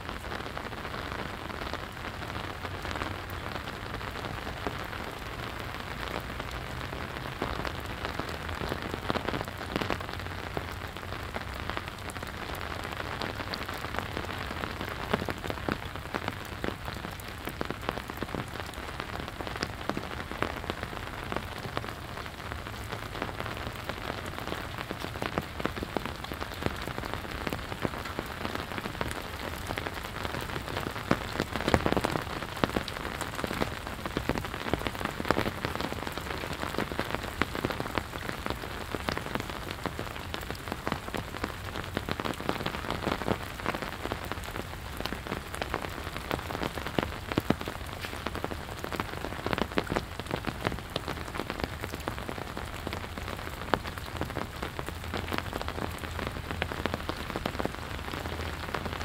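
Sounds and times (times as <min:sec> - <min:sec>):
raindrops ticking: 0:00.0 - 0:59.0
steady rain hiss: 0:00.0 - 0:59.0.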